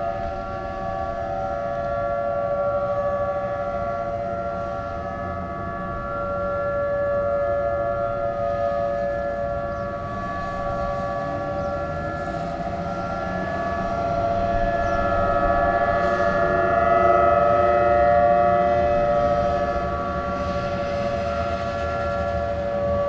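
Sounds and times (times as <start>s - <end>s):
tornado warning siren: 0.0s - 23.0s.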